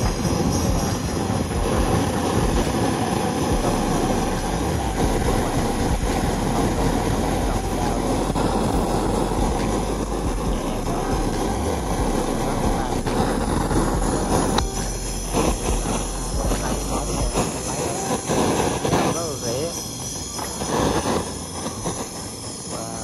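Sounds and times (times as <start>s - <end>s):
low hum: 0.0s - 23.0s
machine running loudly: 0.0s - 23.0s.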